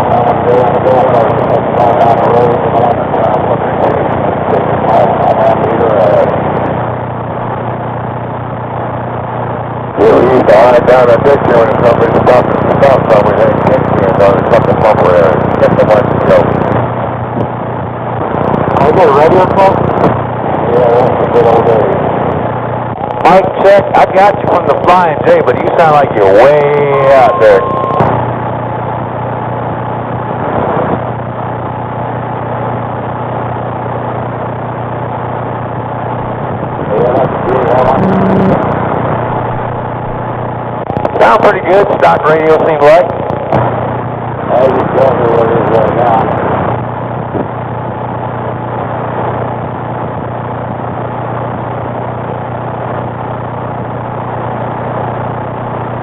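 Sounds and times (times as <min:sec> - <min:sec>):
low hum: 0:00.0 - 0:56.0
radio static hiss: 0:00.0 - 0:56.0.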